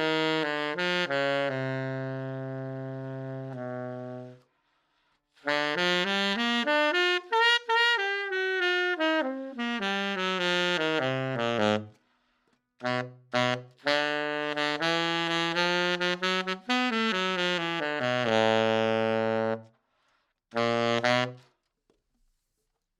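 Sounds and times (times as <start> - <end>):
saxophone playing phrases: 0.0 - 4.6, 5.4 - 12.0, 12.8 - 19.8, 20.5 - 21.6.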